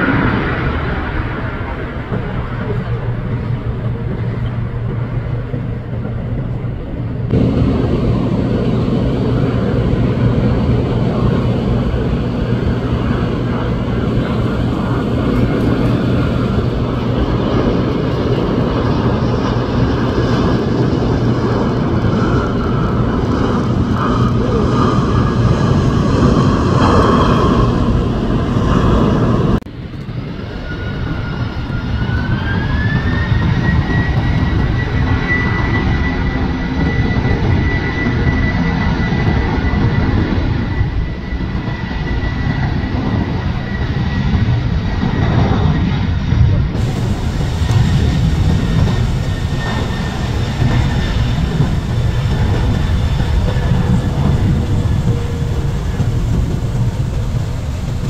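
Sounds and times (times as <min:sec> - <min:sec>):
jet engines roaring: 0:00.0 - 0:58.0
jet engines whining: 0:00.0 - 0:58.0.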